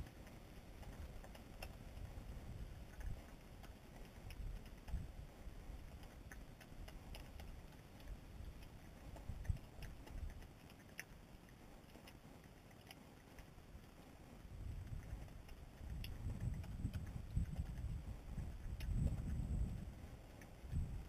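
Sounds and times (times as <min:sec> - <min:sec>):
animal chewing and licking: 0:00.0 - 0:21.0.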